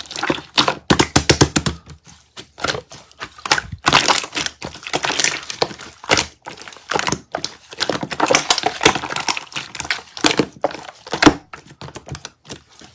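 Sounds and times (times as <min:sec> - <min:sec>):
slime clicking and crackling: 0:00.0 - 0:12.9.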